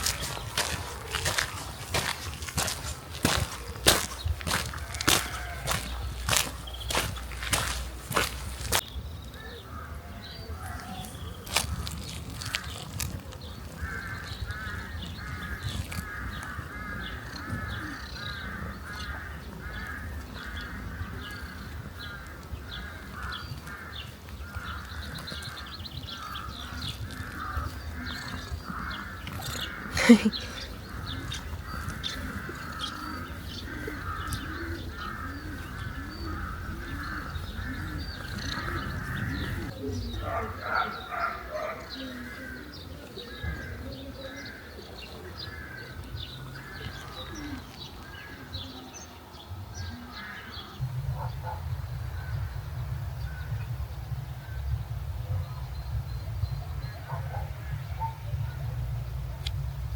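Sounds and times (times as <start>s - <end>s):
birds calling: 0.0s - 58.6s.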